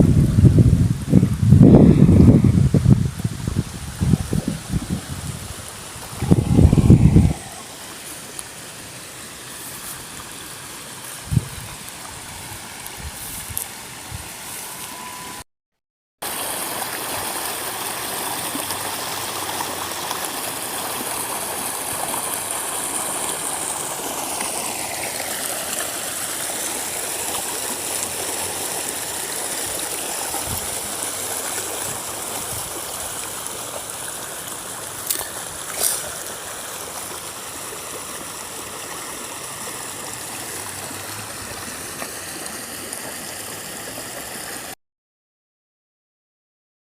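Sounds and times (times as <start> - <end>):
water running over rocks: 1.7 - 15.0, 16.2 - 44.8.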